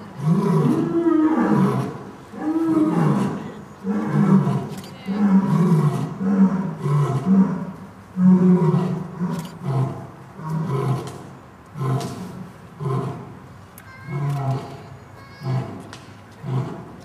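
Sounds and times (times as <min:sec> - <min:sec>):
lions roaring: 0:00.2 - 0:13.3, 0:15.4 - 0:17.0.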